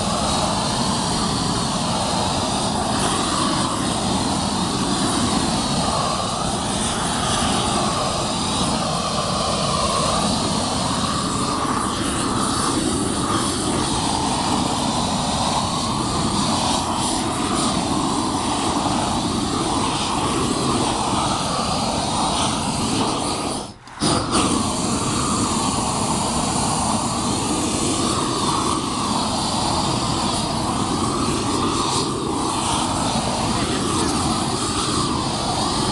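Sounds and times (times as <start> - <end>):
roofing torch burning: 0.0 - 35.9.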